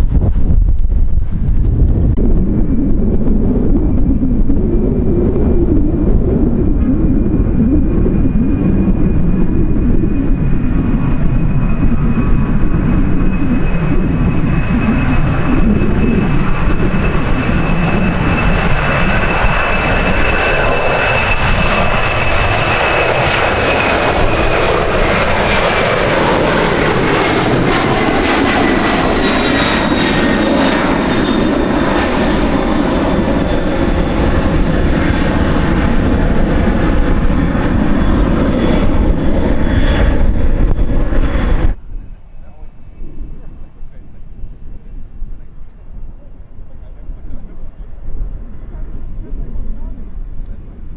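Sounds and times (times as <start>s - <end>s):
jet engines whining and roaring: 0.0s - 50.9s
wind buffeting on microphone: 0.0s - 50.9s.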